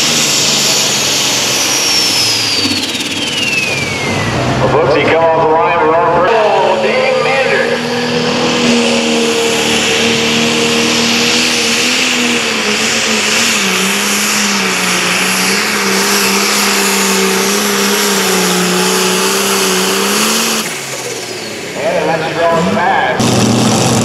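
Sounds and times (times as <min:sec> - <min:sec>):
tractor engine at full throttle: 0:00.0 - 0:24.0.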